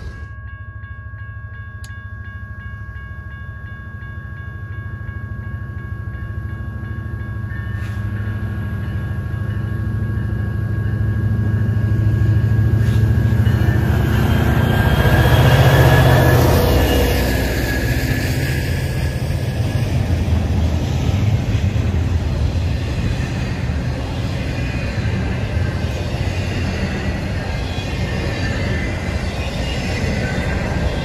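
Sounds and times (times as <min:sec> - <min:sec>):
crossing warning bell ringing: 0:00.0 - 0:31.0
diesel locomotive rumble: 0:06.2 - 0:31.0.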